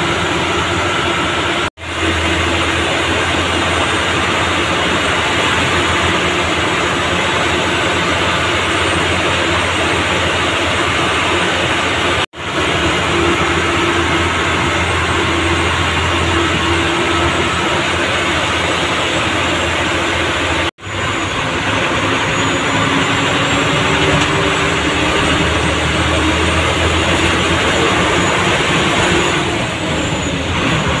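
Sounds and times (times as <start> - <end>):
bus diesel engine running: 0.0 - 31.0
road and wind noise: 0.0 - 31.0.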